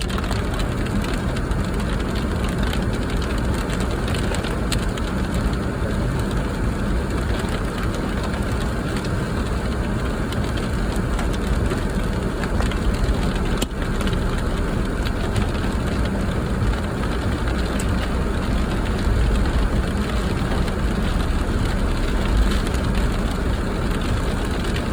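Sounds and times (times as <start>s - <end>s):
car rumbling on the move: 0.0s - 24.9s
rain ticking on car body: 0.0s - 24.9s.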